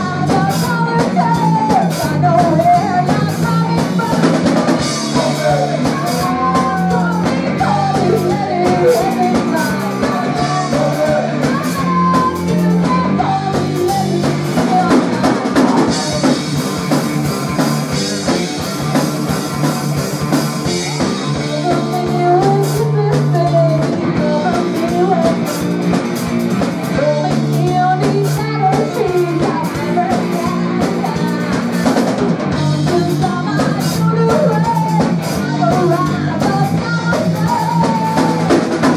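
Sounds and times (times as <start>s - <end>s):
woman singing lead: 0.0s - 16.9s, 20.6s - 25.8s, 26.8s - 38.9s
drum kit beats: 0.0s - 38.9s
electric bass: 0.0s - 38.9s
electric guitar: 0.0s - 38.9s.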